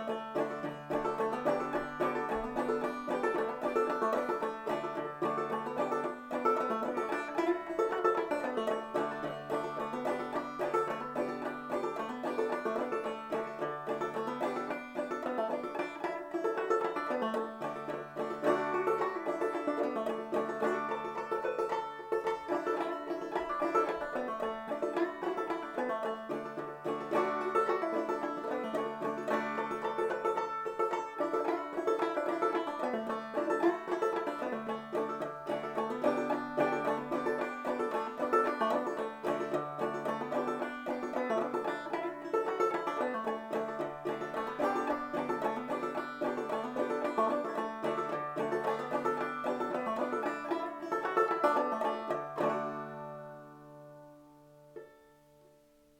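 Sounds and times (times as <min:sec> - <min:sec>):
banjo playing old-time tune: 0:00.0 - 0:55.9.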